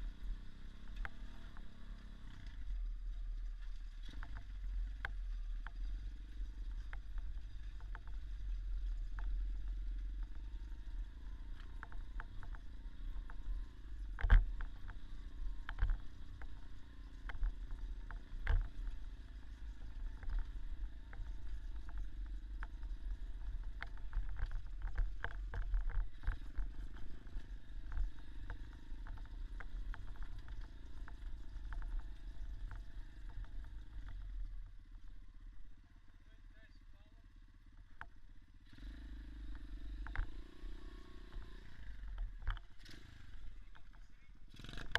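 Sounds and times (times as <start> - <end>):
dirt bike engine: 0.0 - 44.9.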